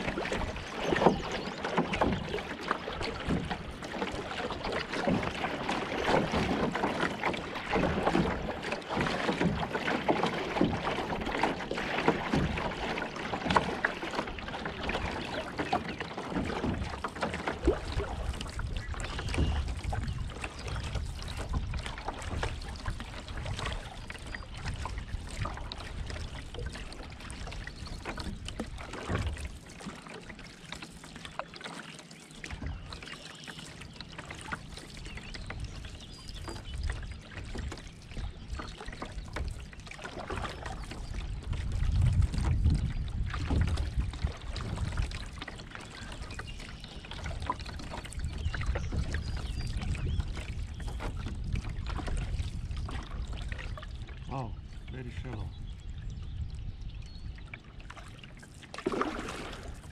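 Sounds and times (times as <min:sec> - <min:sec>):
paddle splashing water: 0:00.0 - 0:59.9
water lapping at hull: 0:00.0 - 0:59.9.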